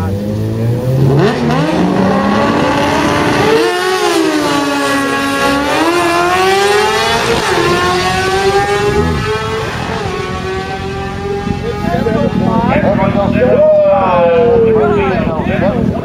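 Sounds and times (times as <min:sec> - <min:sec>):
motorcycle engines accelerating hard: 0:00.0 - 0:16.0.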